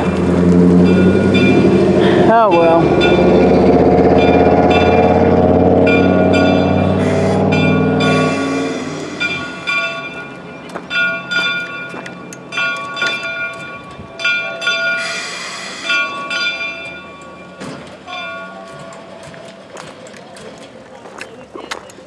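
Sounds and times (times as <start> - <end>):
steam locomotive bell ringing: 0.0 - 19.8
locomotive low steady rumble: 0.0 - 22.0.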